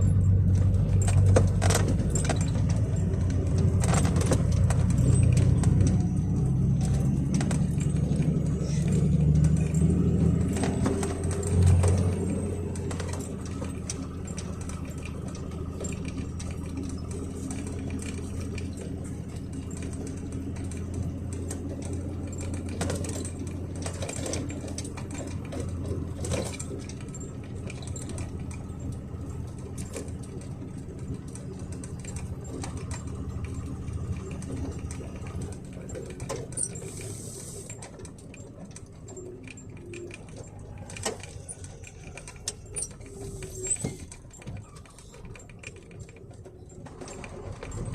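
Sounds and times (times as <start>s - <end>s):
cab creaking and clicking: 0.0s - 47.9s
truck engine running: 0.0s - 47.9s.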